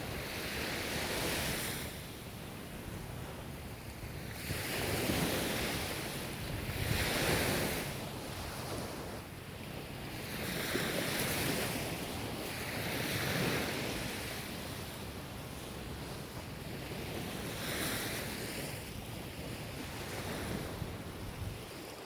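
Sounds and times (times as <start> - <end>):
ocean waves breaking on shore: 0.0 - 22.0.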